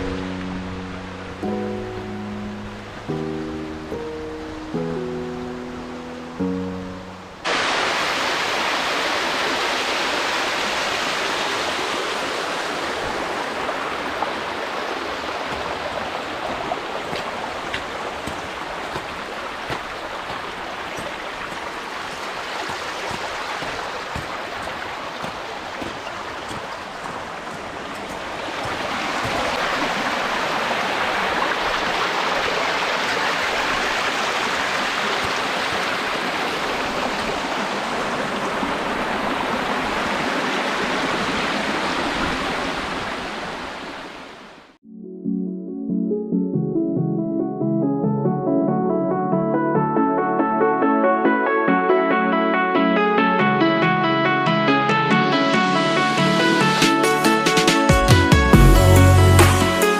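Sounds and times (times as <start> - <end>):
creek water rushing: 0.0 - 44.8, 55.8 - 59.9.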